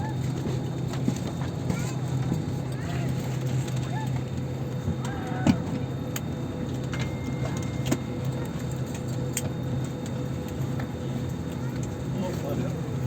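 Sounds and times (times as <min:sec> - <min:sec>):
airliner cabin engine hum: 0:00.0 - 0:13.0.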